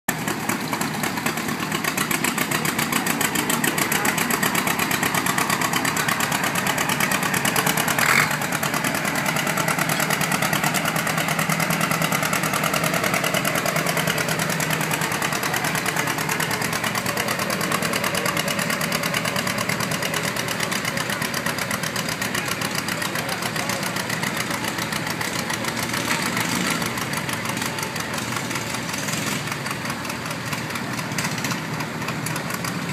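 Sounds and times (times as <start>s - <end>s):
tractor engine under load: 0.1s - 32.9s.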